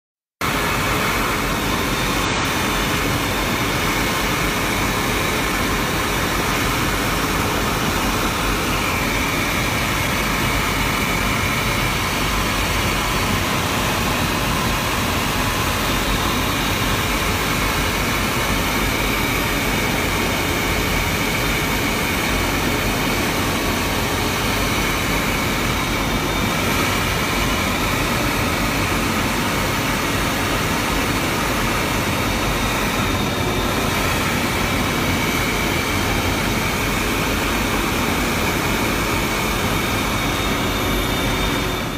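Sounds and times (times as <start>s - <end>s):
jet engine and airflow noise: 0.4s - 41.9s.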